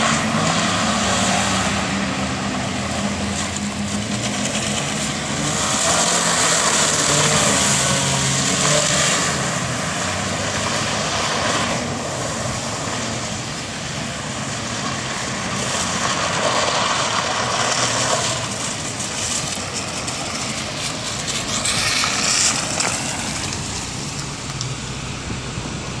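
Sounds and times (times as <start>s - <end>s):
car engine revving: 0.0s - 26.0s
tyres hissing on wet road: 0.0s - 26.0s.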